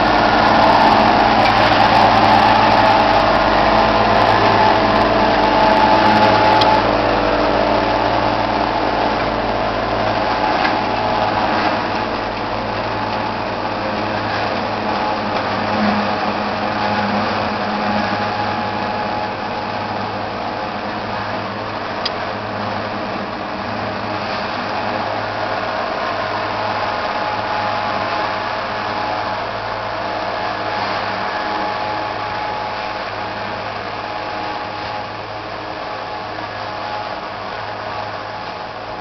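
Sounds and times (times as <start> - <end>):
forage chopper whirring: 0.0 - 39.0
tractor engine drone: 0.0 - 39.0.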